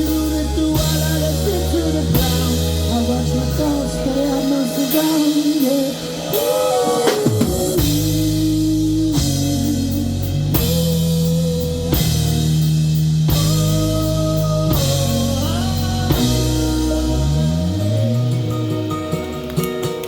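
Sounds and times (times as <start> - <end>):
live band playing: 0.0 - 20.0
sliding guitar notes: 0.0 - 20.0.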